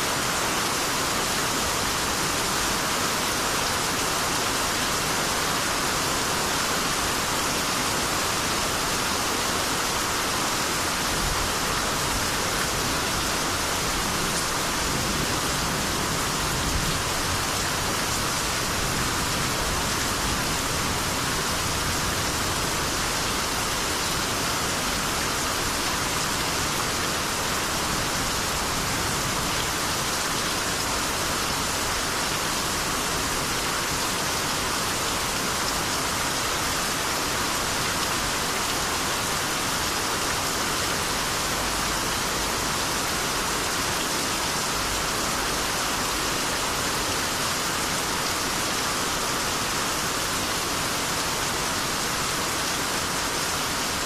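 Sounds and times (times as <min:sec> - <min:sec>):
steady rainfall hiss: 0:00.0 - 0:54.0.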